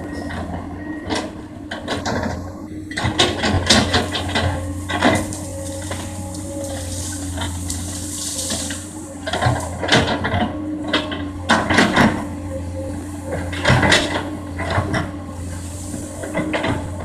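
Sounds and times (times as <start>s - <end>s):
excavator diesel engine humming: 0.0s - 17.0s
excavator knocking and scraping: 0.0s - 17.0s.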